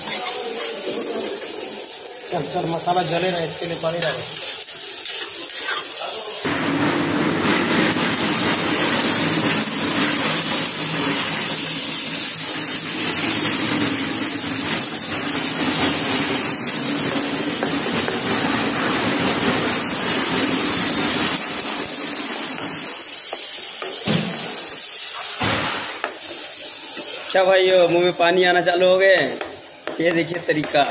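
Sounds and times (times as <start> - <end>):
fish sizzling in a pan: 0.0 - 30.9.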